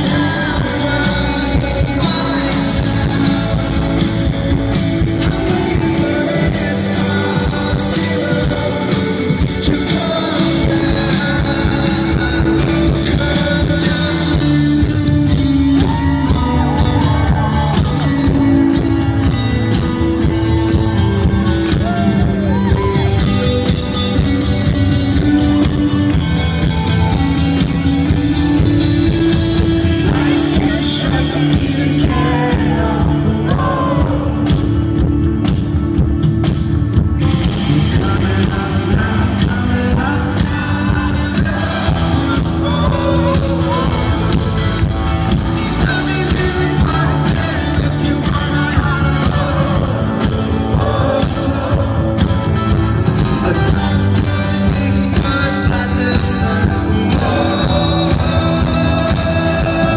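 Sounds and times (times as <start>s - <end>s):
live rock band playing: 0.0s - 59.9s
sung lead vocal: 0.0s - 59.9s.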